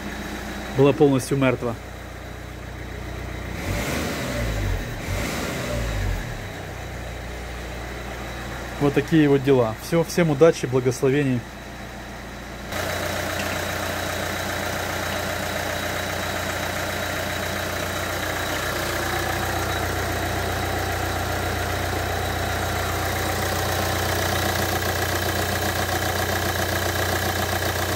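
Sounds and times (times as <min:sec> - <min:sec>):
diesel engine idling: 0:00.0 - 0:27.9.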